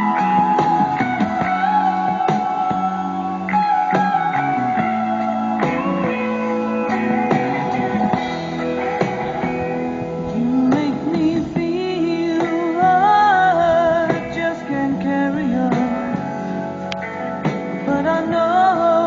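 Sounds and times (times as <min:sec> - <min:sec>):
sliding guitar melody: 0:00.0 - 0:19.0
sustained bass and chords: 0:00.0 - 0:19.0.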